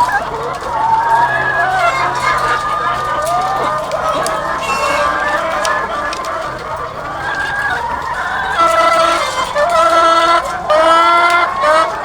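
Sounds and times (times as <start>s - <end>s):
drawn-out hen calls: 0.0s - 12.0s
hens clucking and calling: 0.0s - 12.0s.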